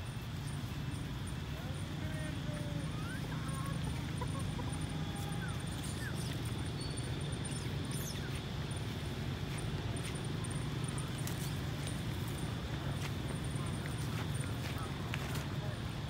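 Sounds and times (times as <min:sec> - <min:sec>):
faint short chirping calls: 0:00.0 - 0:15.0.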